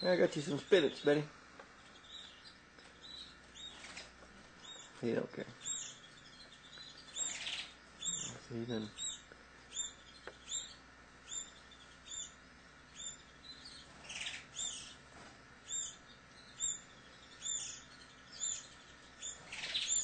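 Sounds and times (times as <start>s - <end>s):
young canaries chirping: 0.0s - 20.0s.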